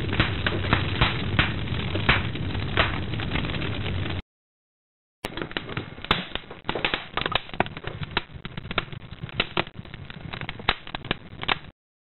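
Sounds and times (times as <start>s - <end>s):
embers crackling and popping: 0.0s - 4.2s, 5.2s - 11.7s.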